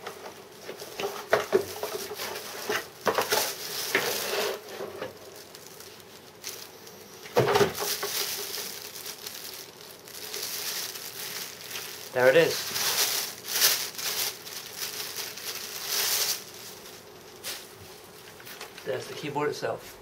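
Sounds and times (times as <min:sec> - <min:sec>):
cardboard and plastic rustling: 0:00.0 - 0:20.0.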